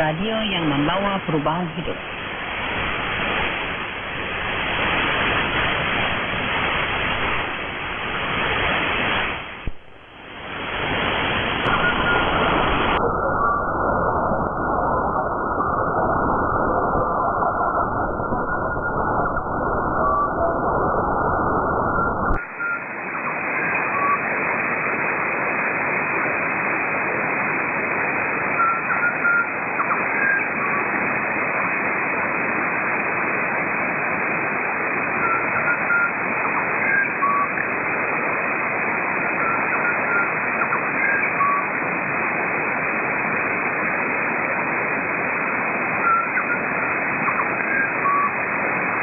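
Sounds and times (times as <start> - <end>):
radio static hiss: 0.0 - 49.0.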